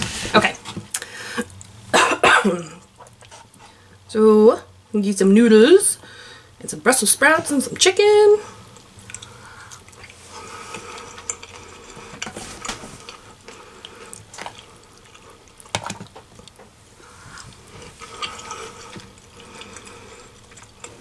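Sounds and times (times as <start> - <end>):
washing machine humming: 0.0 - 3.3, 4.1 - 21.0.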